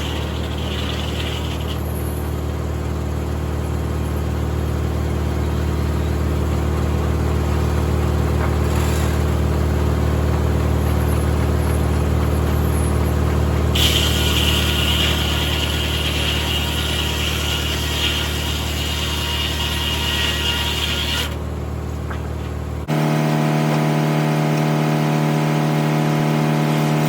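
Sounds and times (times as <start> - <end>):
tractor engine running: 0.0 - 16.6, 21.3 - 27.0.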